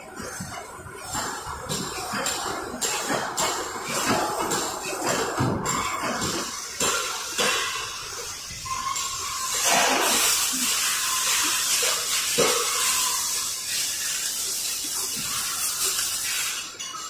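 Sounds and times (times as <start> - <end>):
machines hissing: 0.0 - 17.0
machine clanks: 0.1 - 17.0.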